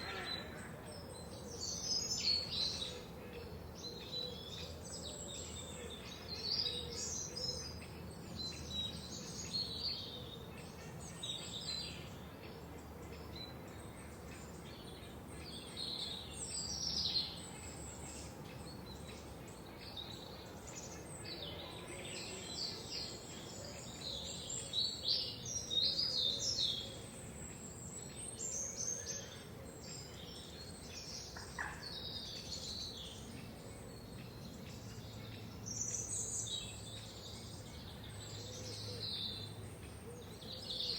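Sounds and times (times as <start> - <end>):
faint background hiss: 0.0 - 40.9
songbirds singing and chirping: 0.0 - 40.9.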